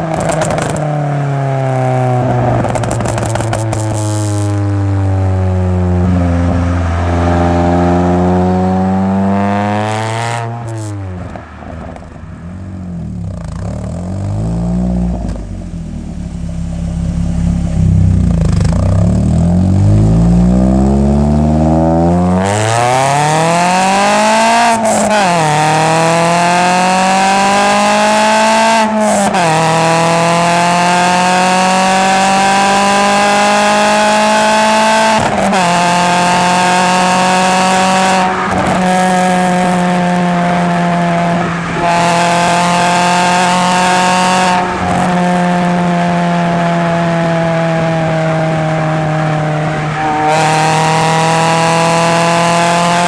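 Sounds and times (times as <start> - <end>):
exhaust crack: 0.0 - 27.0, 27.8 - 52.8
car exhaust revving: 0.0 - 53.0.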